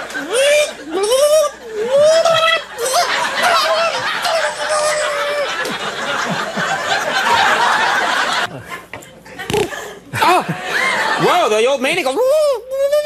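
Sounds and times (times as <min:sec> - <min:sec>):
studio audience laughing: 0:00.0 - 0:11.6.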